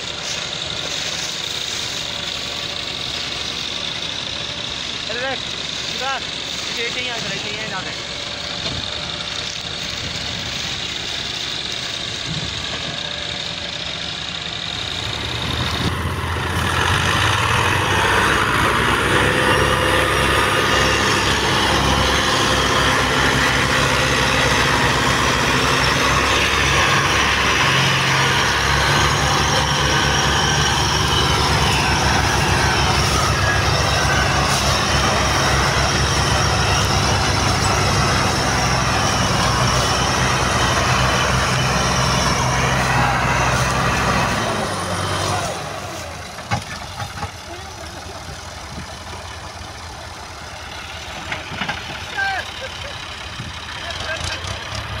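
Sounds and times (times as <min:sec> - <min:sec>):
diesel tractor engines under load: 0:00.0 - 0:55.0.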